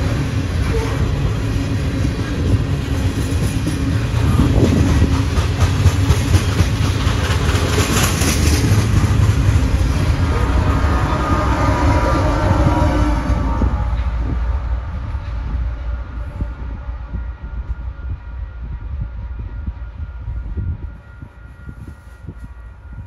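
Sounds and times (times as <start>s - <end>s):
diesel locomotive passing: 0.0s - 23.0s
train wheels rumbling over rail joints: 0.0s - 23.0s.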